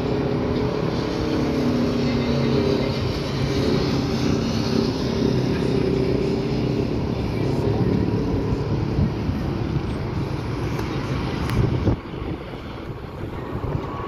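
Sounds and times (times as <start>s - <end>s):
distant jet engines at takeoff: 0.0s - 14.0s.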